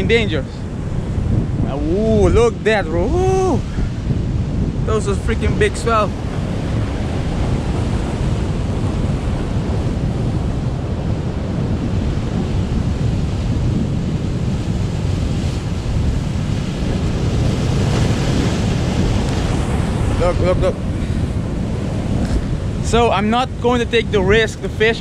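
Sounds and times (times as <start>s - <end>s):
ocean surf breaking on rocks: 0.0s - 25.0s
wave crashing: 0.0s - 25.0s
wind buffeting microphone: 0.0s - 25.0s.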